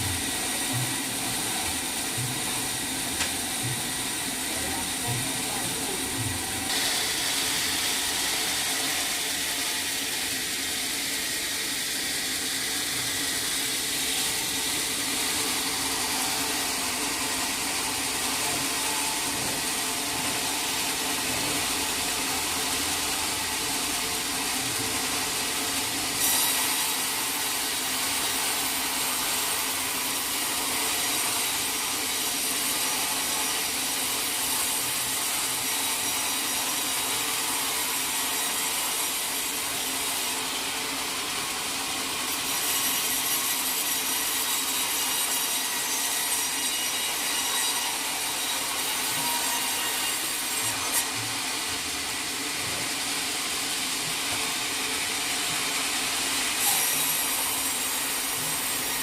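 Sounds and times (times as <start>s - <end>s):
saw cutting through log: 0.0s - 59.0s.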